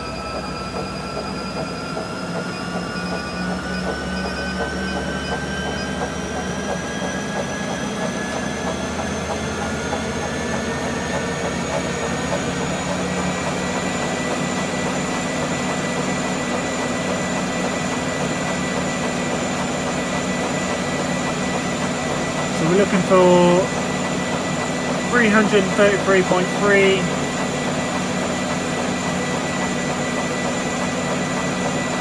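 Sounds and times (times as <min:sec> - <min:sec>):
treadmill motor whirring and whining: 0:00.0 - 0:32.0.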